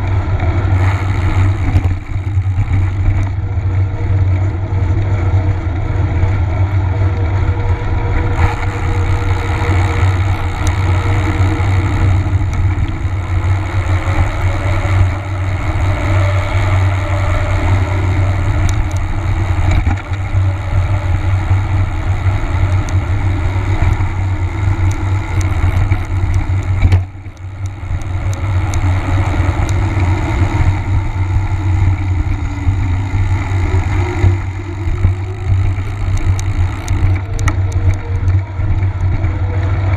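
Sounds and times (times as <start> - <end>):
bicycle road rumble: 0.0 - 39.9.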